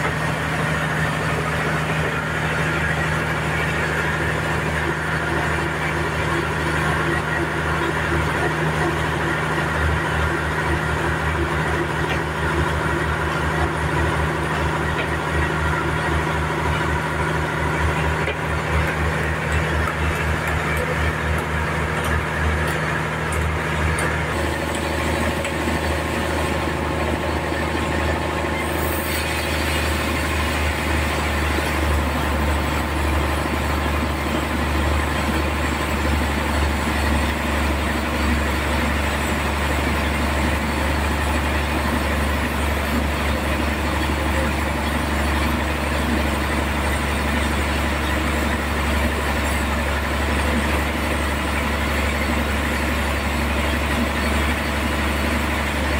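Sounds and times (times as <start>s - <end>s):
sawmill humming: 0.0s - 55.9s.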